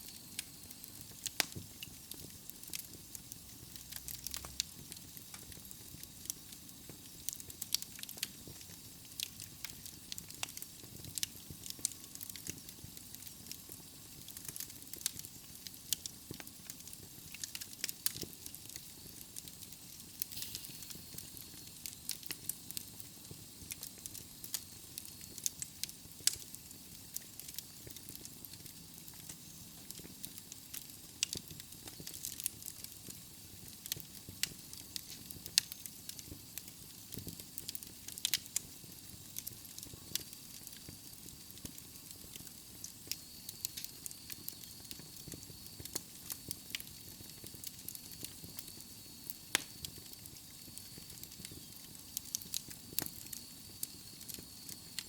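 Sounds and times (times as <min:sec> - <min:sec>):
wood logs crackling in fireplace: 0:00.0 - 0:55.0.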